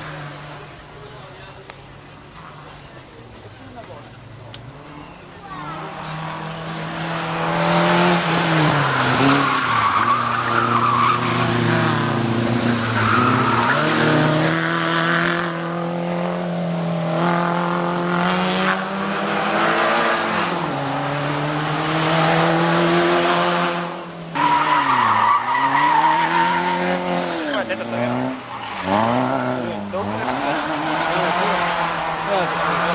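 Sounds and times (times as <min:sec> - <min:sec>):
rally car engines revving: 0:00.0 - 0:32.9.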